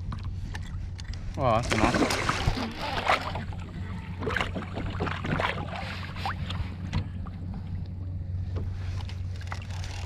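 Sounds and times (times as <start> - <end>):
light water splashes: 0.0 - 10.0
wind rumble on microphone: 0.0 - 10.0.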